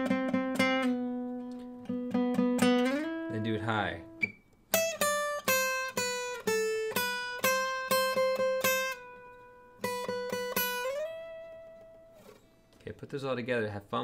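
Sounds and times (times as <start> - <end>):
acoustic guitar picked riff: 0.0 - 12.8.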